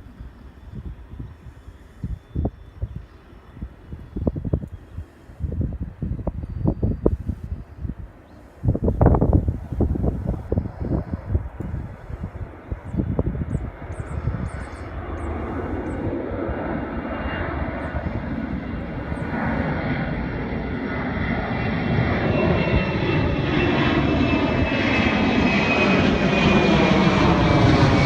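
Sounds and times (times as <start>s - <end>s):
jet engines at takeoff power: 0.0s - 28.0s.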